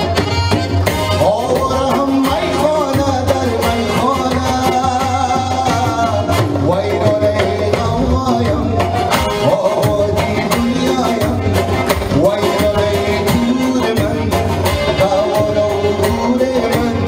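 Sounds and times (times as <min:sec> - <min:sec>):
percussion beat: 0:00.0 - 0:17.0
man singing into microphone: 0:01.0 - 0:17.0.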